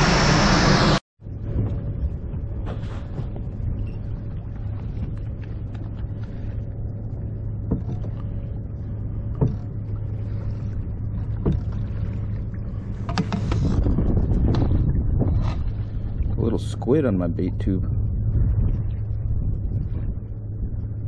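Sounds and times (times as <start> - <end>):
low hum: 0.0 - 21.0
water and wind noise: 0.0 - 21.0.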